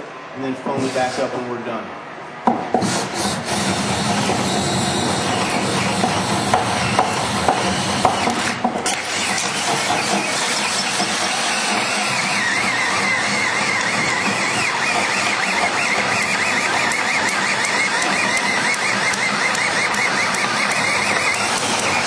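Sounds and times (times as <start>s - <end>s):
power drill boring through wood: 2.8s - 22.0s.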